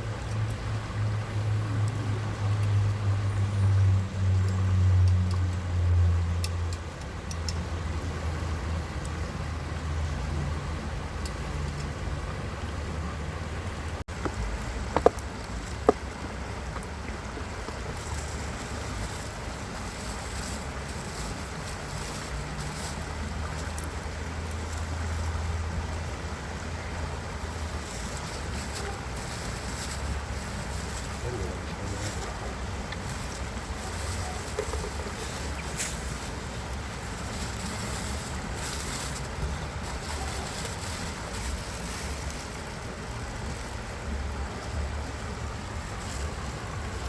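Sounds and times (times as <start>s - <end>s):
flowing stream water: 0.0s - 47.0s.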